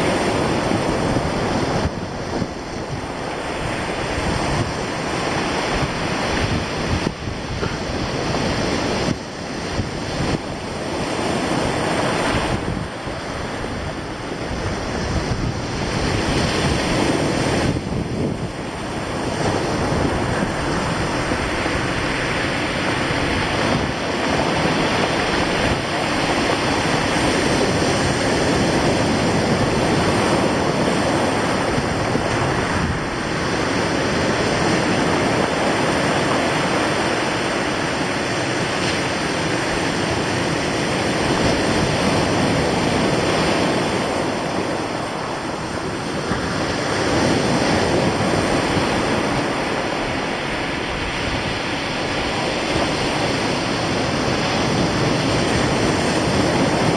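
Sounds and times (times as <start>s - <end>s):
surf breaking on beach: 0.0s - 56.9s
wind on microphone: 0.0s - 56.9s.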